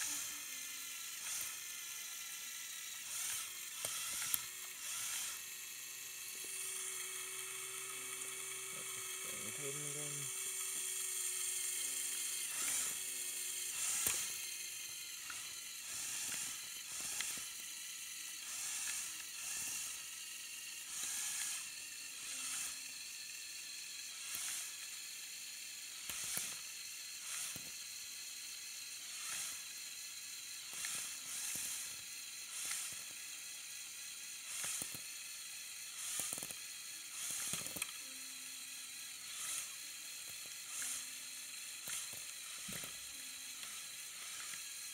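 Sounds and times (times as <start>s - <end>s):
motorized winch whirring: 0.0s - 44.9s.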